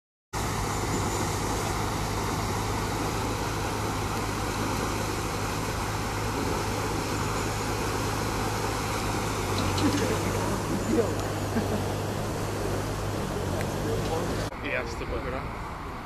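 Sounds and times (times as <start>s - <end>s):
floodwater rushing: 0.4s - 16.0s.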